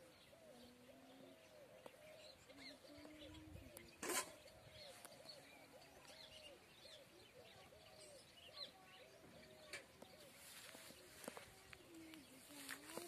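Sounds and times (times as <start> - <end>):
low bird calls: 0.0 - 13.0.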